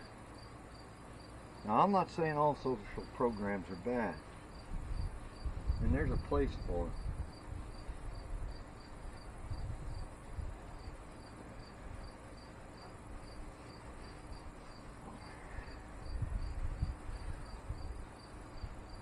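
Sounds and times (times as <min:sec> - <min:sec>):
cricket chirping: 0:03.0 - 0:19.0.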